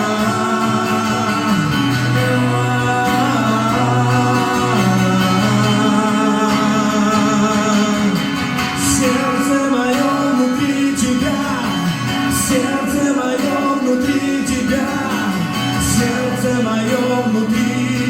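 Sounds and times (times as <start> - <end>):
guitar: 0.0 - 18.0
people singing: 0.0 - 18.0
worship band music: 0.0 - 18.0.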